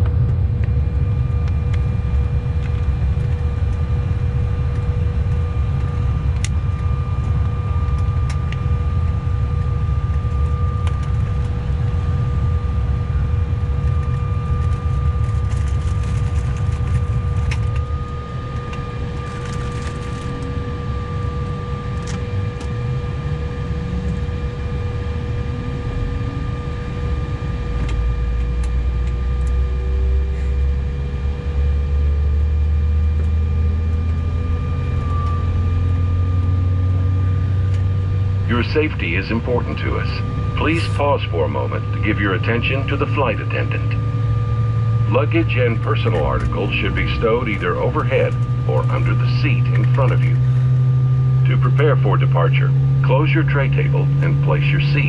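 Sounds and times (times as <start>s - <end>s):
deep engine rumble: 0.0s - 55.0s
jet cabin whine and air rush: 0.0s - 55.0s
jet engine spooling up: 0.0s - 55.0s.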